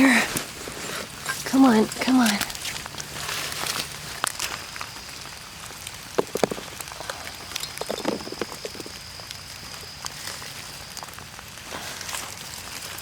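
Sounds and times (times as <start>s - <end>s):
rain dripping on leaves: 0.0s - 13.0s.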